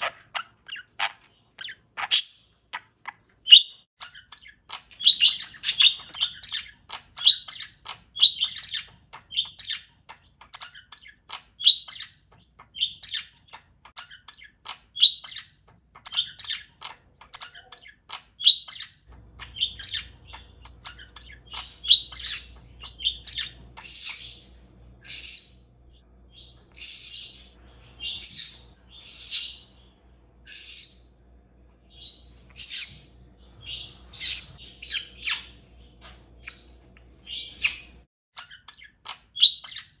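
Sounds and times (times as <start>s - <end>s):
parakeet chirping: 0.0s - 31.2s, 31.9s - 40.0s.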